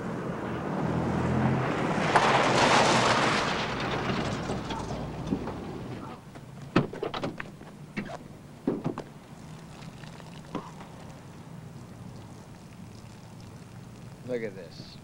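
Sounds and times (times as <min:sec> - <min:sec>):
truck engine and road hum: 0:00.0 - 0:15.0
tyres on gravel: 0:01.6 - 0:14.8.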